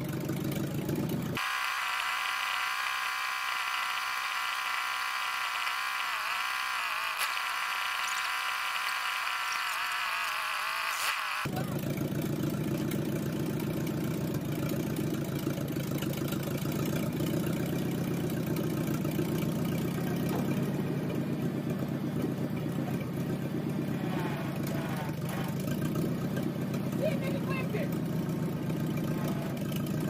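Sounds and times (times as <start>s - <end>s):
loader engine idling: 0.0s - 30.0s.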